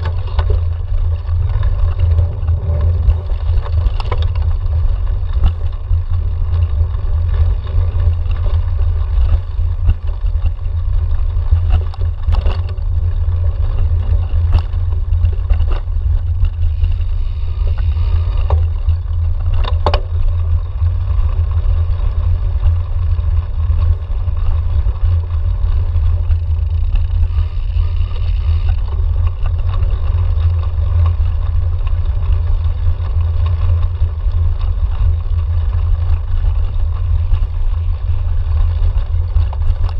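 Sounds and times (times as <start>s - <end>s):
bike clicks and rattles on bumps: 0.0s - 39.9s
low rumble of wind and vibration: 0.0s - 39.9s.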